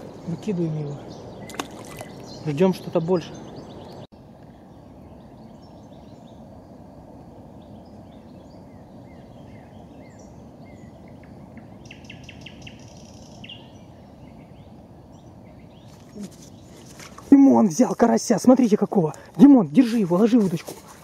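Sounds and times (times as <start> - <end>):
open-air background rush: 0.0 - 21.0
small birds chirping: 0.0 - 21.0.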